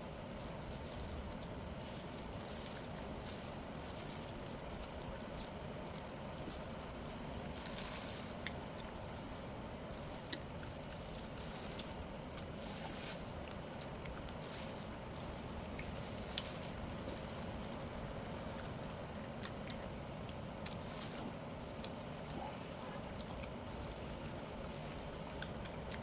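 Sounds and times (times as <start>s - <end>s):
person chewing wetly: 0.2s - 26.0s.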